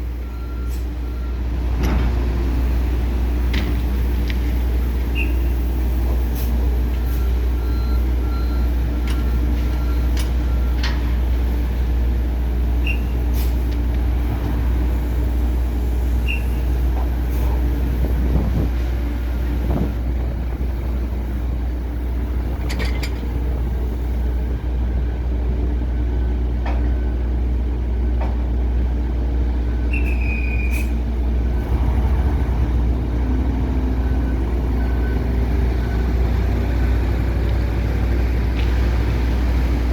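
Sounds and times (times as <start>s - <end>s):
diesel machinery rumbling: 0.0s - 39.9s.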